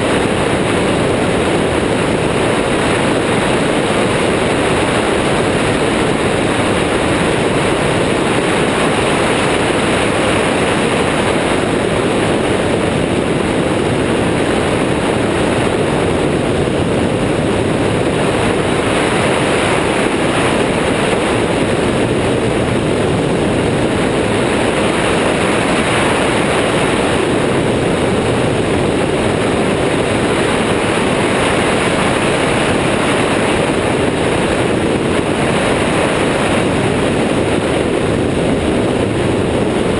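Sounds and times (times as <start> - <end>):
airflow rushing: 0.0 - 39.9
microlight engine droning: 0.0 - 39.9.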